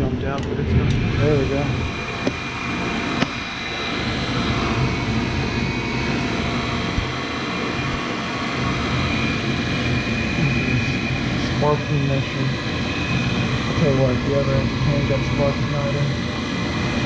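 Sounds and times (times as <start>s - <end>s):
furnace motor whirring with high whine: 0.0s - 17.0s.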